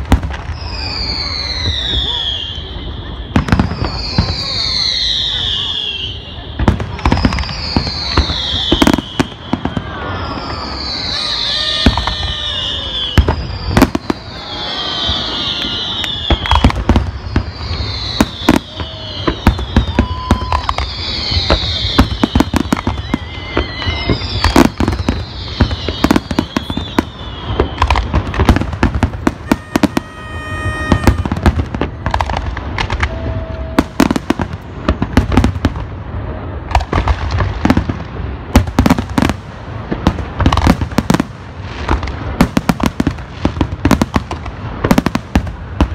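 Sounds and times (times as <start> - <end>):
fireworks whistles falling in pitch: 0.0 - 39.4, 40.0 - 45.9
fireworks bangs and crackling: 0.0 - 45.9.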